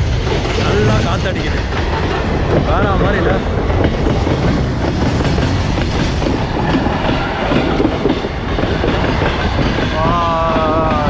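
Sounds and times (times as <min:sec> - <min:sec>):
freight train rumbling: 0:00.0 - 0:11.0
wheels clacking over rail joints: 0:00.0 - 0:11.0.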